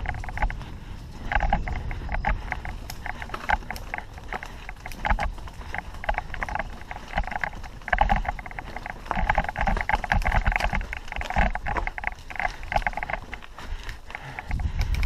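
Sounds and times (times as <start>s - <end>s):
mountain bike rattling on dirt trail: 0.0s - 15.0s.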